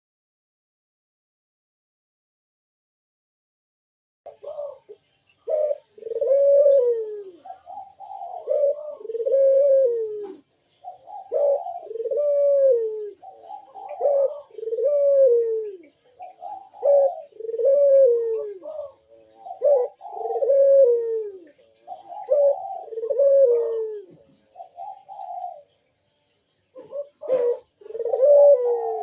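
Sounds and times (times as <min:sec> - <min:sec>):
dove cooing: 0:04.3 - 0:25.8, 0:26.6 - 0:29.0.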